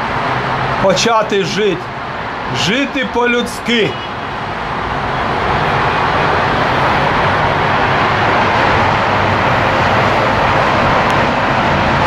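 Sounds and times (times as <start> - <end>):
heavy highway traffic roar: 0.0 - 12.0.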